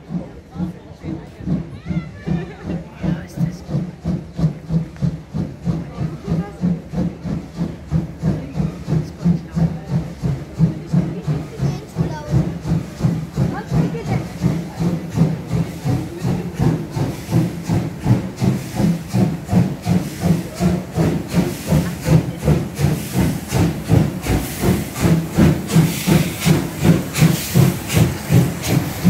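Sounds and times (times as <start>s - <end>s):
steam locomotive exhaust beats: 0.0s - 29.0s
loud steam hiss: 0.1s - 29.0s.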